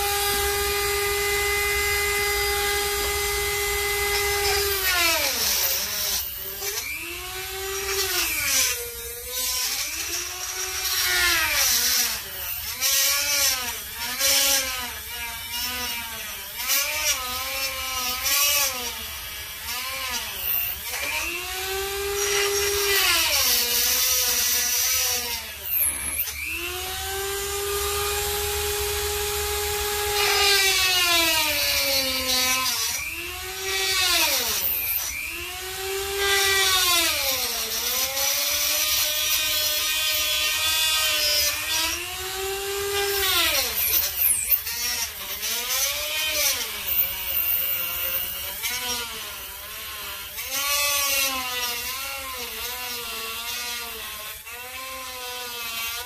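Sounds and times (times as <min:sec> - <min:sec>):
rotary tool whining: 0:00.0 - 0:56.0.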